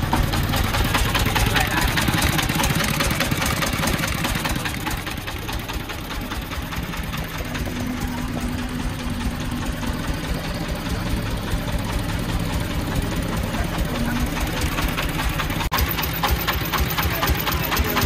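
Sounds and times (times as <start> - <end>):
diesel truck engine knocking: 0.0 - 18.0
excavator diesel engine: 0.0 - 18.0.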